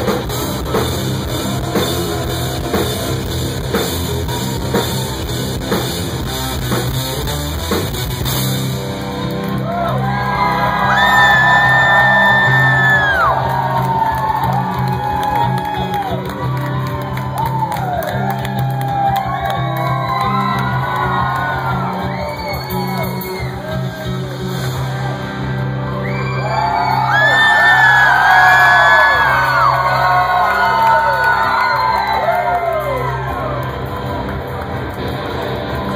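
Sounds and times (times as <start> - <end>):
audience screaming and whooping: 0.0 - 7.3, 9.0 - 35.9
live rock band playing: 0.0 - 35.9.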